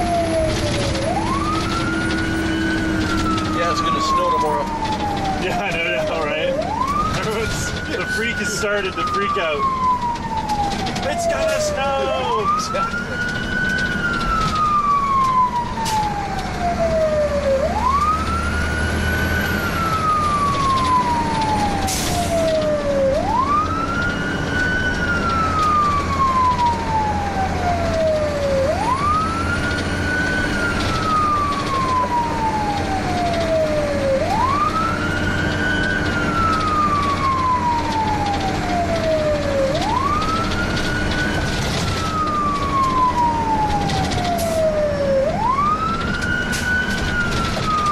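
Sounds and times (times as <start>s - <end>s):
fire engine siren wailing: 0.0s - 47.9s
road noise: 0.0s - 47.9s
truck engine drone: 0.0s - 47.9s.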